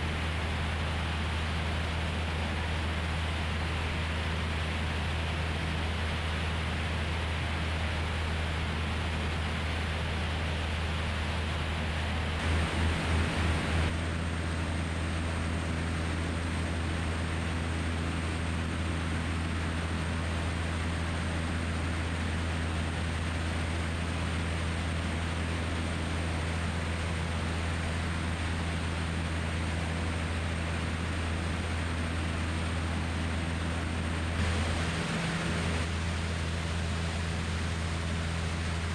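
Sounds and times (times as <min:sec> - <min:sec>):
airplane engine droning: 0:00.0 - 0:38.9.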